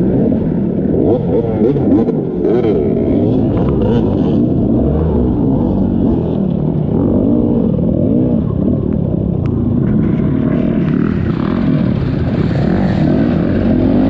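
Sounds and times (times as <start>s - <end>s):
dirt bike engine revving: 0.0s - 8.5s, 10.0s - 14.0s.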